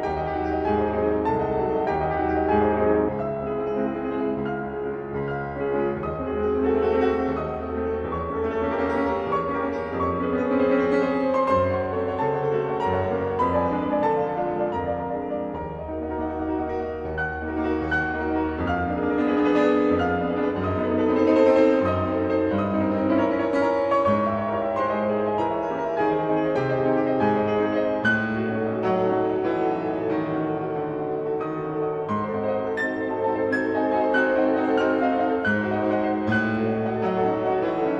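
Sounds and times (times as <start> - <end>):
solo classical piano: 0.0 - 37.9.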